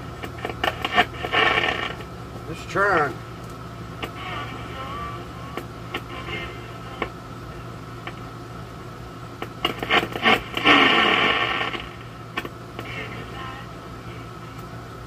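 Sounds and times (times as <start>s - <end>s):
radio static and crackle: 0.0s - 3.2s, 3.9s - 15.0s
steady low hum: 0.0s - 15.0s.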